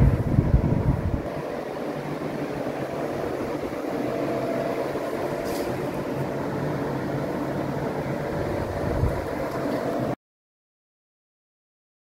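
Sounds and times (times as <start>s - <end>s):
air conditioner blower rushing: 0.0s - 10.2s.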